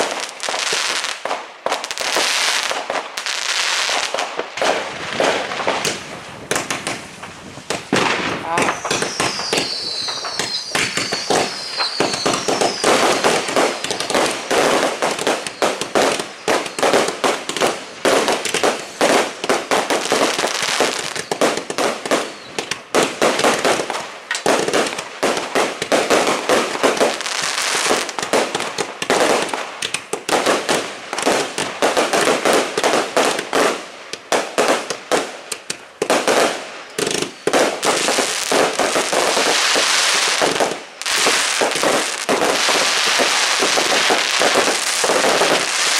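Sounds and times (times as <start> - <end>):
fireworks bangs and crackles: 0.0 - 45.9
whistling fireworks falling in pitch: 0.0 - 45.9.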